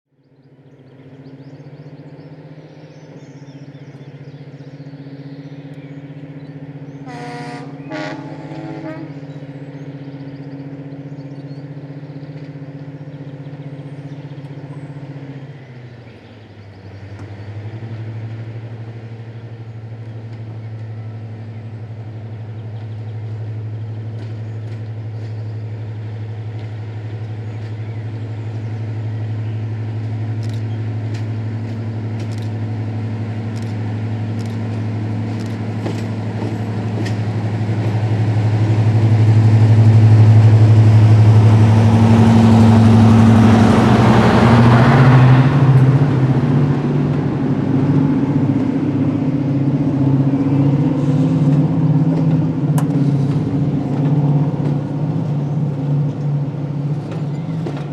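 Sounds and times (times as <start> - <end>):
diesel locomotive engine passing: 0.2 - 57.9.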